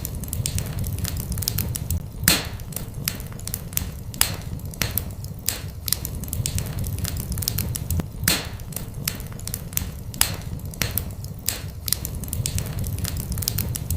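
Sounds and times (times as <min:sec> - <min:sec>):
low rumble of flames: 0:00.0 - 0:13.9
wood fire crackling and popping: 0:00.0 - 0:13.9.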